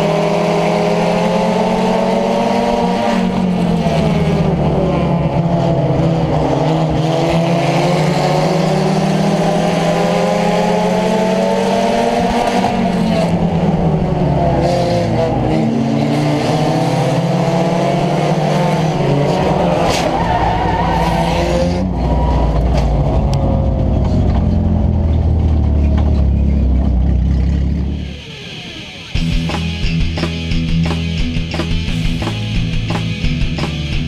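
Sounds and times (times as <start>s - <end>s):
race car engine running hard: 0.0s - 34.0s.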